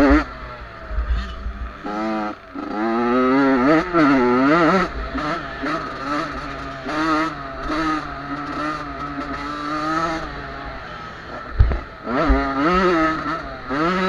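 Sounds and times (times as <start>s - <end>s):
motocross bikes revving: 0.0s - 14.0s.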